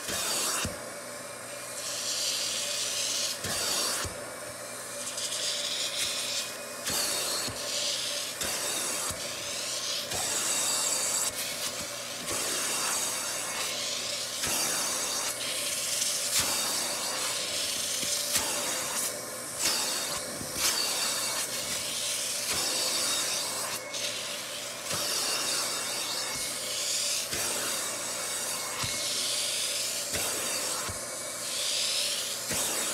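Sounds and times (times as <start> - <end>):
cleaning machine suction hiss: 0.0 - 32.9.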